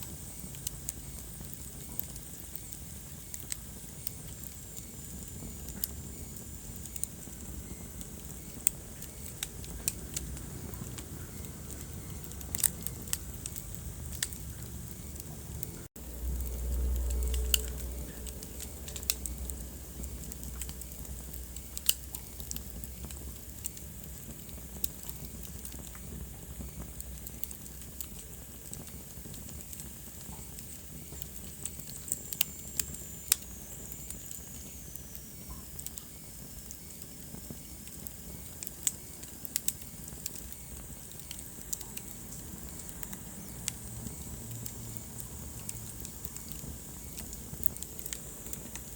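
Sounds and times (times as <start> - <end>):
fire crackling and popping: 0.0 - 48.9
fire rumbling and hissing: 0.0 - 48.9.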